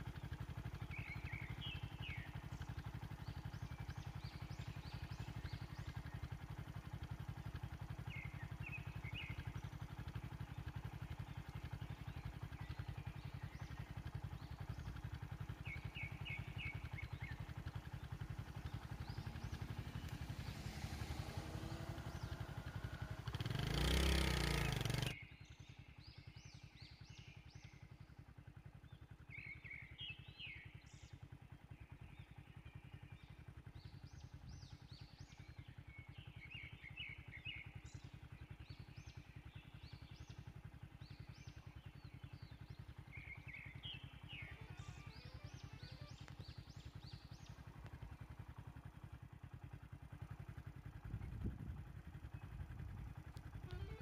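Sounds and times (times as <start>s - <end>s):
vehicle engine idling: 0.0s - 54.0s
birds chirping: 0.2s - 27.5s, 29.3s - 54.0s.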